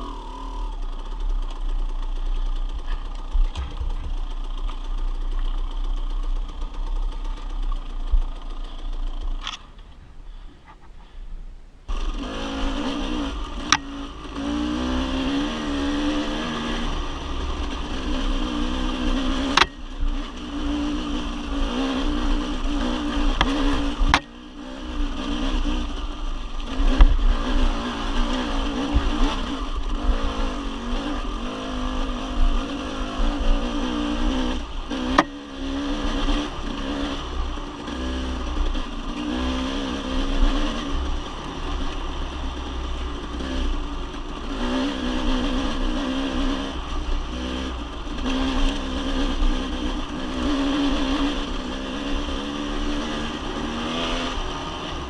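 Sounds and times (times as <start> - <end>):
dirt bike engine running: 0.0 - 11.2, 11.9 - 55.0.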